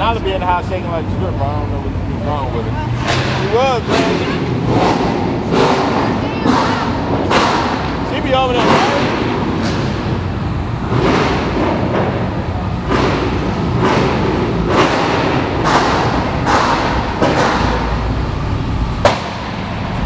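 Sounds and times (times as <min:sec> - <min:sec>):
car rolling slowly: 0:00.0 - 0:20.0.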